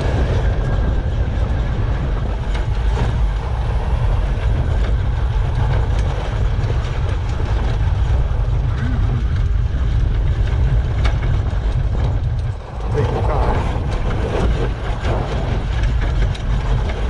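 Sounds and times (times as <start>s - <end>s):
chassis creaking and rattling: 0.0s - 17.0s
vehicle low rumble: 0.0s - 17.0s.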